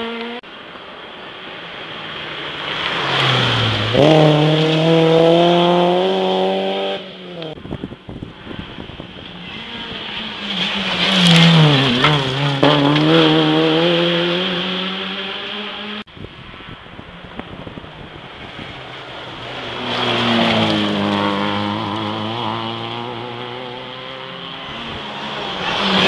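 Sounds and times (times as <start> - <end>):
rally car engines revving: 0.0 - 0.6, 1.6 - 26.0.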